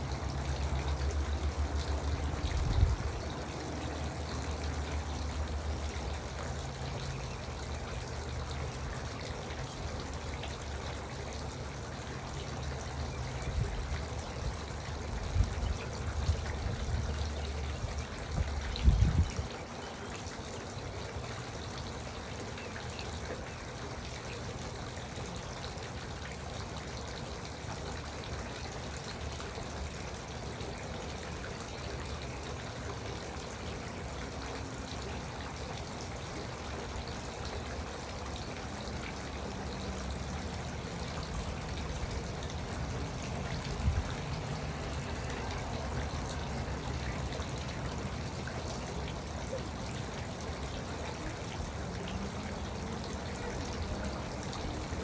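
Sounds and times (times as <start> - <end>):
fountain trickling and splashing: 0.0 - 55.0.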